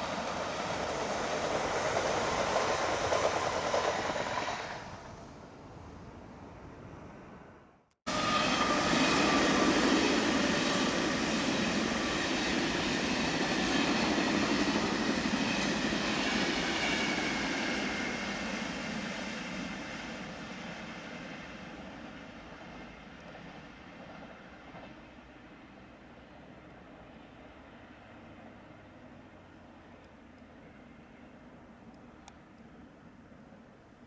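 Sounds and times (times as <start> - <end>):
wheels rushing on rail: 0.0 - 32.3
faint train whine: 0.0 - 34.0.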